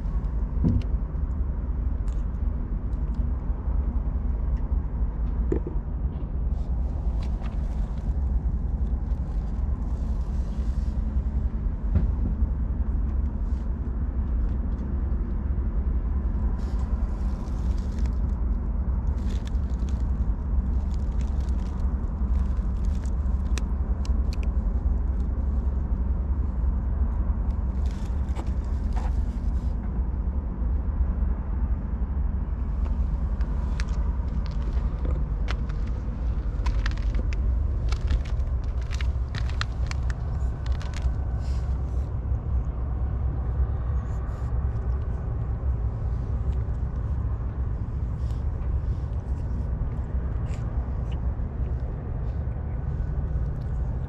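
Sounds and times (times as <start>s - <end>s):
low rumble: 0.0s - 54.0s.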